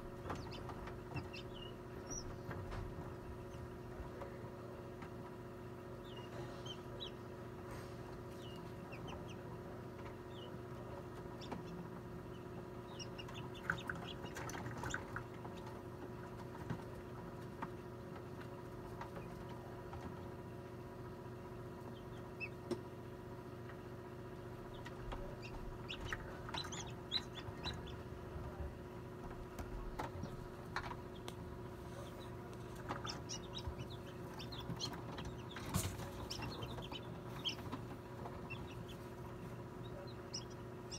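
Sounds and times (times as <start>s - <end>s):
chicks peeping: 0.0s - 40.9s
incubator humming: 0.0s - 40.9s.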